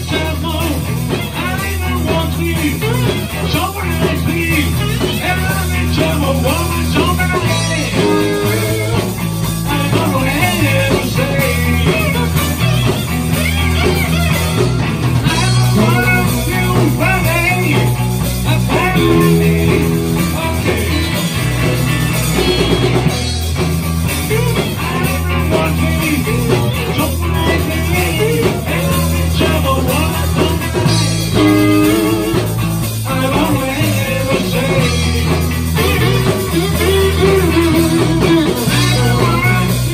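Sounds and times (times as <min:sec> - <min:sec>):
man singing: 0:00.0 - 0:12.5, 0:15.2 - 0:23.0, 0:24.2 - 0:39.9
drum kit: 0:00.0 - 0:39.9
electric bass: 0:00.0 - 0:39.9
electric guitars: 0:00.0 - 0:39.9.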